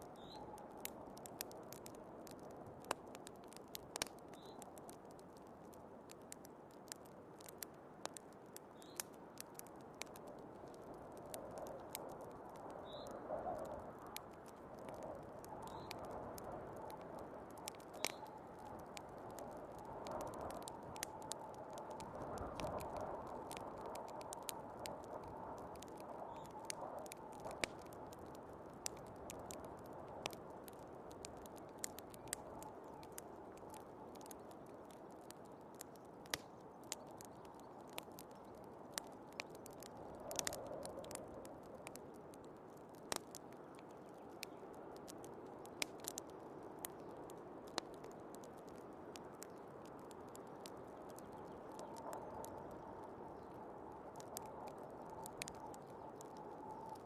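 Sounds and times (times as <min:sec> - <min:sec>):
fireplace crackling and popping: 0:00.0 - 0:57.0.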